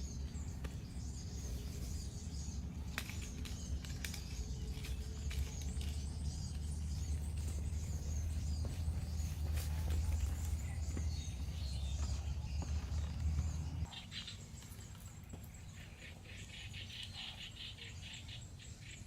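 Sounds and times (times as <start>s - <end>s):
steady low rumble: 0.0s - 15.9s
faint bird chirps: 0.0s - 19.0s.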